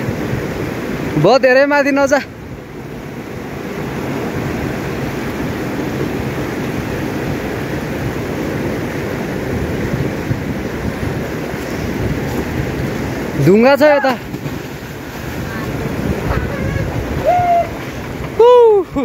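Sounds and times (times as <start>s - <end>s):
river rushing over rapids: 0.0s - 19.0s.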